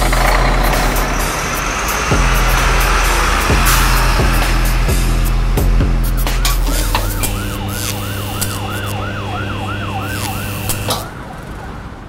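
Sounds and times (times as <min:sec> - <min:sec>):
steady low hum: 0:00.0 - 0:11.1
siren yelping: 0:00.0 - 0:12.0.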